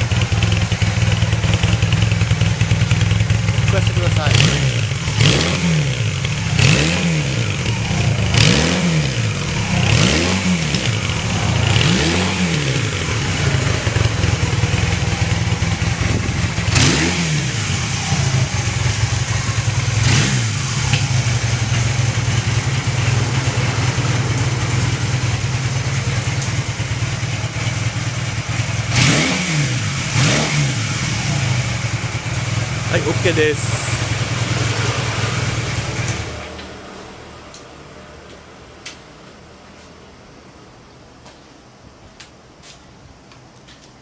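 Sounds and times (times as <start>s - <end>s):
motorcycle engine idling: 0.0s - 37.2s
motorcycle engine revving: 0.0s - 38.0s.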